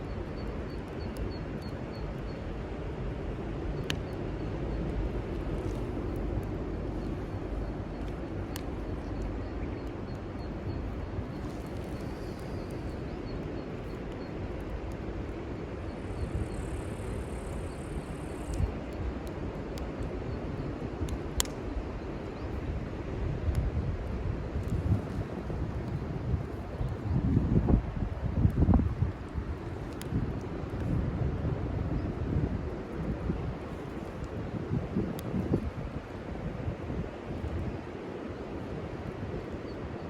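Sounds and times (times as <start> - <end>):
wood fire popping: 0.0 - 22.7, 23.3 - 39.6
wind rumbling on microphone: 0.0 - 40.0.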